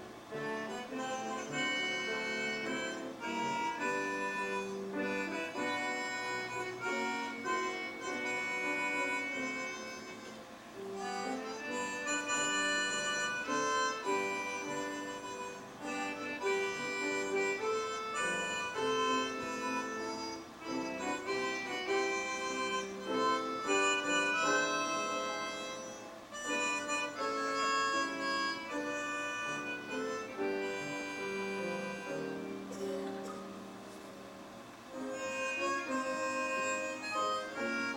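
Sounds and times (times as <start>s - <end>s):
instrumental chorded melody: 0.0s - 37.9s.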